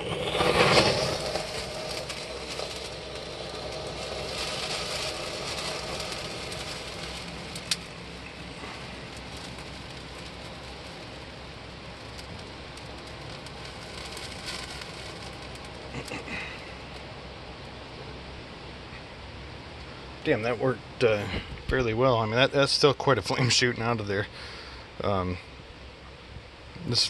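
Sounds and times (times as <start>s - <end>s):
thermite burning hiss: 0.0s - 27.0s.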